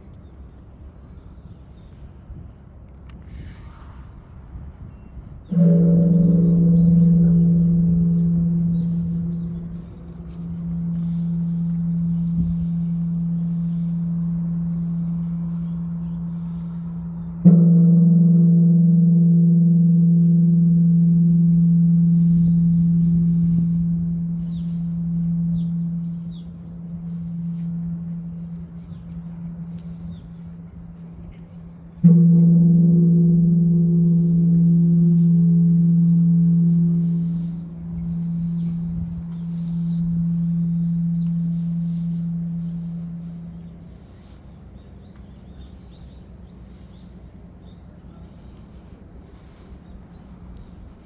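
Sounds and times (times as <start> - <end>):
faint bird chirps: 3.3 - 17.5, 18.9 - 51.0
large bronze bell ringing: 5.4 - 46.7.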